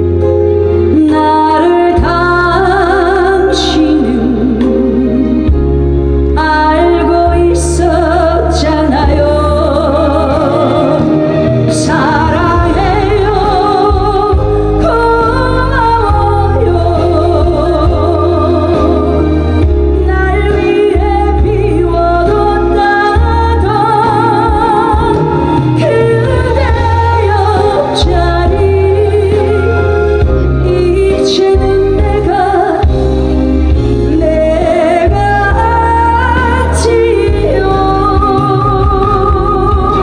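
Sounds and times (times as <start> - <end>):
backing track with deep bass: 0.0 - 40.0
woman singing into a microphone: 0.0 - 40.0.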